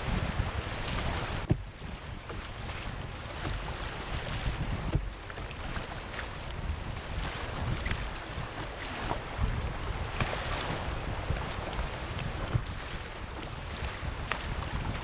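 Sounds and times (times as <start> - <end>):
water splashes: 0.0 - 15.0
whitewater slapping against hull: 0.0 - 15.0
wind buffeting microphone: 0.0 - 15.0.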